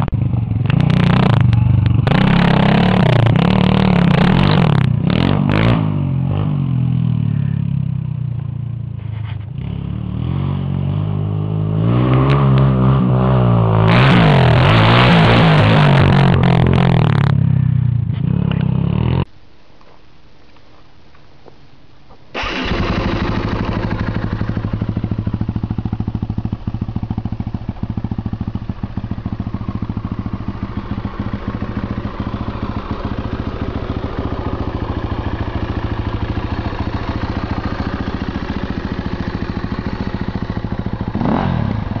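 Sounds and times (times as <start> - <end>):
dirt bike engine idling and revving: 0.0 - 19.3, 22.4 - 42.0.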